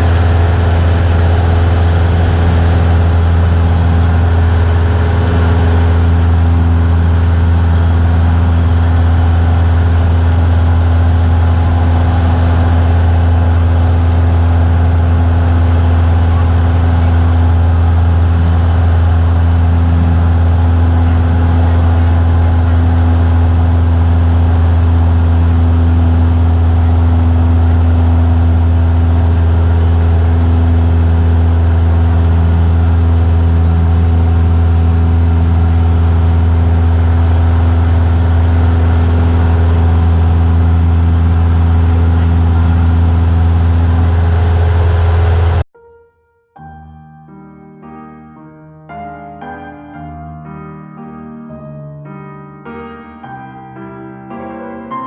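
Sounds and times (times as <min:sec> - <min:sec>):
propeller plane engine droning: 0:00.0 - 0:45.7.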